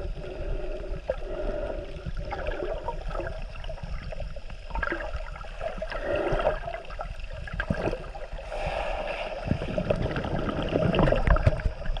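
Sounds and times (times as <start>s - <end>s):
water sloshing and gurgling: 0.0s - 12.0s.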